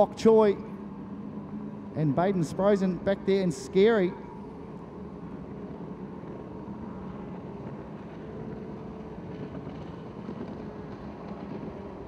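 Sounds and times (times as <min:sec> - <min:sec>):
distant powerboat engines droning: 0:00.0 - 0:12.0.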